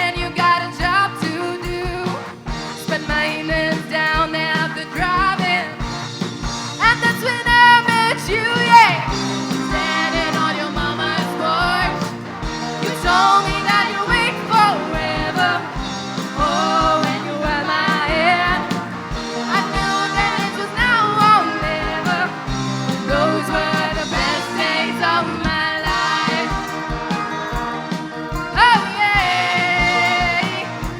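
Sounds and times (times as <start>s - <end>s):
bass: 0.0s - 30.9s
guitar: 0.0s - 30.9s
rock song with lead vocal: 0.0s - 30.9s
steady kick drum beat: 0.0s - 30.9s.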